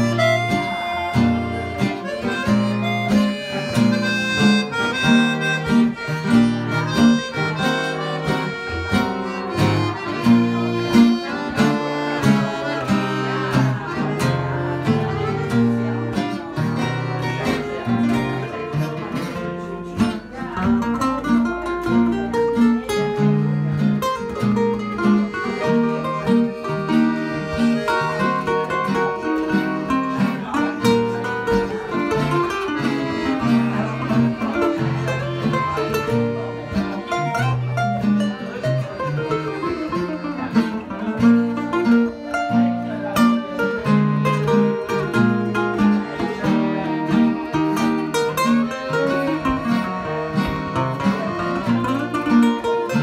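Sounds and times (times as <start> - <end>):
violin: 0.0 - 20.4, 24.3 - 53.0
accordion: 0.0 - 53.0
lead guitar: 0.0 - 53.0
strummed rhythm guitar: 0.0 - 53.0.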